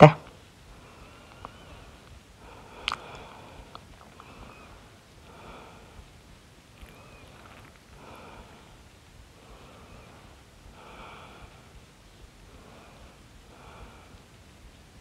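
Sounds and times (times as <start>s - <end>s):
faint regular breathing: 0.3s - 15.0s.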